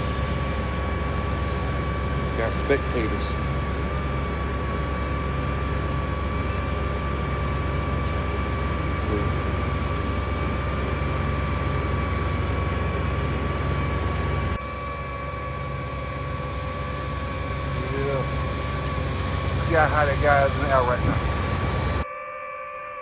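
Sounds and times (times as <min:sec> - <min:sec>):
low mechanical hum: 0:00.0 - 0:22.1
thin high whine: 0:00.0 - 0:23.0.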